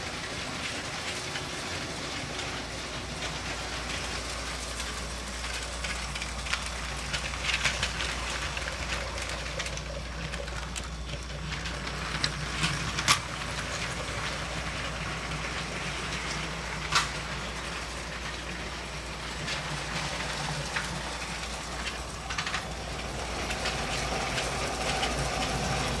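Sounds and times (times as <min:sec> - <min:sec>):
toy train motor hum: 0:00.0 - 0:26.0
wheels rattling on track: 0:00.0 - 0:26.0.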